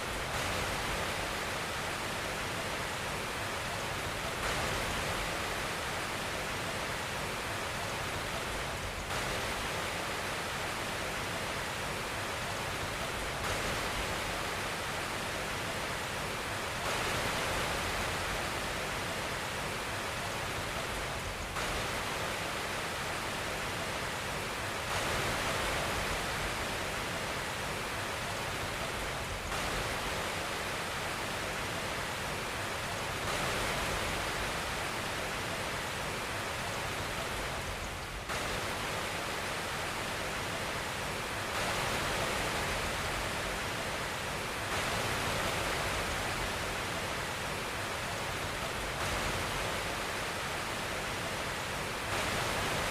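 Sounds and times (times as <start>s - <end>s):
white noise hiss: 0.0s - 52.9s.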